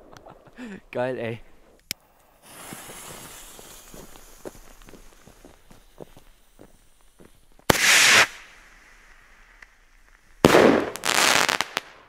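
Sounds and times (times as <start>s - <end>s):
sharp firework cracks: 1.9s - 12.0s
firework rockets bursting: 2.0s - 12.0s.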